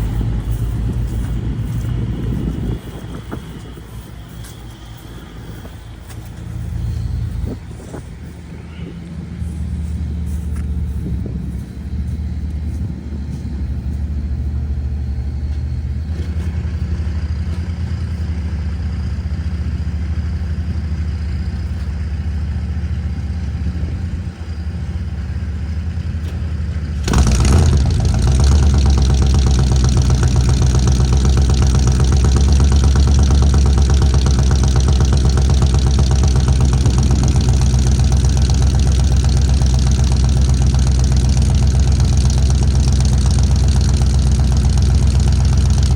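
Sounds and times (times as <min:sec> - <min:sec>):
vehicle engine idling: 0:00.0 - 0:45.9.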